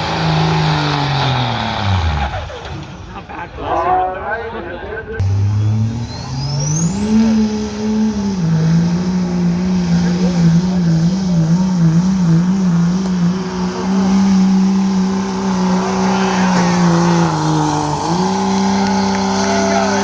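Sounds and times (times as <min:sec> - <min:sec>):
turbocharger whistle: 0:00.0 - 0:03.0, 0:05.2 - 0:20.0
diesel truck engine revving: 0:00.0 - 0:03.4, 0:05.2 - 0:20.0.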